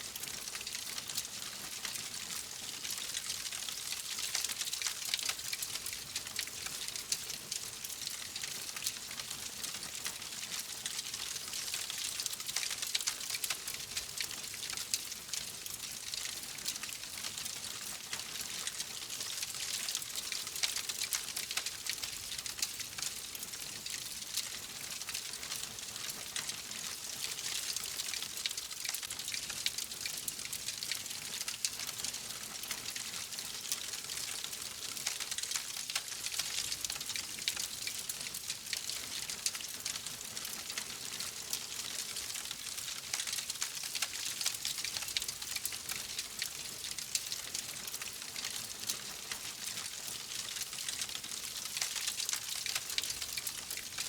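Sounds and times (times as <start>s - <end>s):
wood fire crackling: 9.8s - 54.0s.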